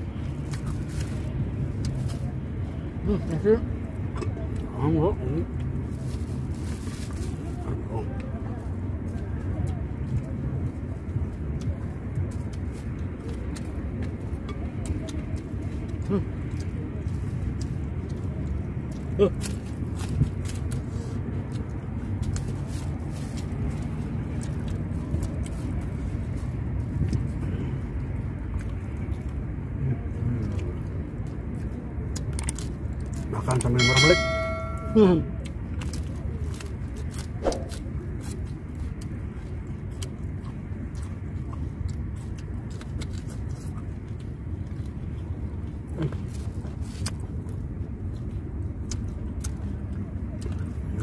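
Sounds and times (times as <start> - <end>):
chewing crunchy food: 0.0 - 34.0, 35.3 - 51.0
steady low rumble: 0.0 - 51.0.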